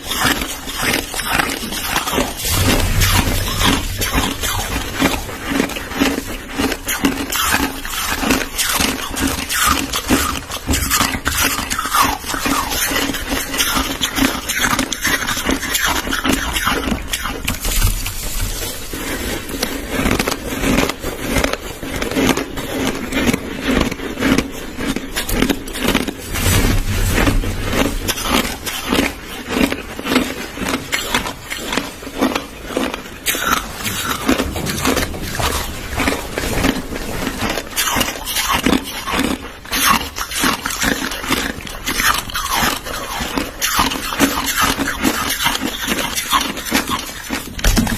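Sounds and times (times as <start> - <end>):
person chewing crushed ice: 0.0 - 47.9.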